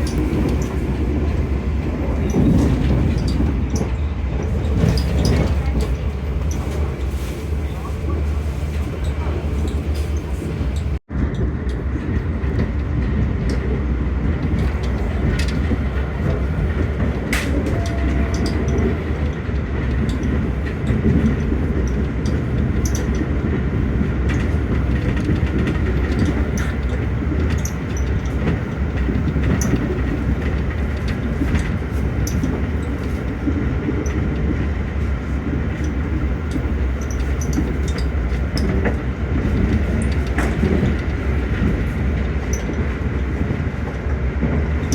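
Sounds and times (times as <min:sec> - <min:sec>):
train rumbling at speed: 0:00.0 - 0:44.9
train wheels clicking and knocking: 0:00.0 - 0:44.9.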